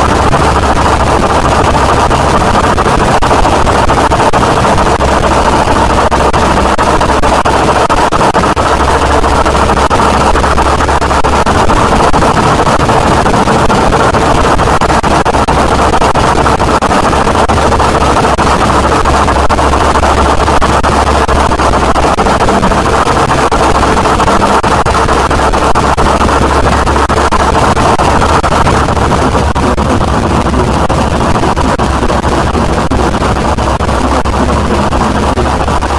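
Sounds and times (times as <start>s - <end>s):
harsh noise music: 0.0s - 35.9s.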